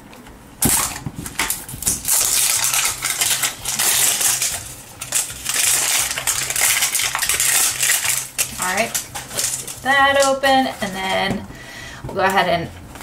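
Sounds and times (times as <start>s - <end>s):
plastic wrapper tearing and crackling: 0.6s - 11.2s.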